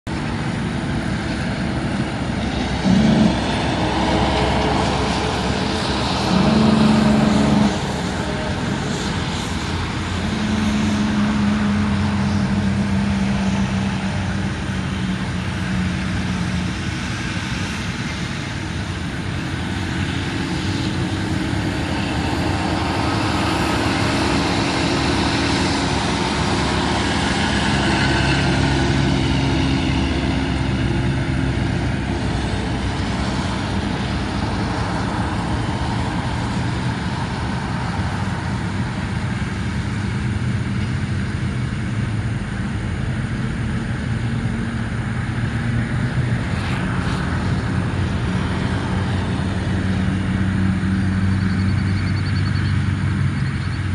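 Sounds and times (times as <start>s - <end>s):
vehicle engines rumbling: 0.0s - 53.9s
distant jet landing: 0.1s - 53.9s.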